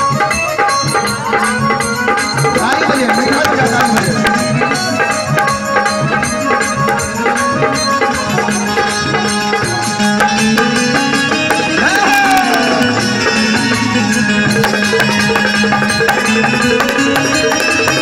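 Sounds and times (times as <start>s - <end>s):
harmonium chords: 0.0s - 18.0s.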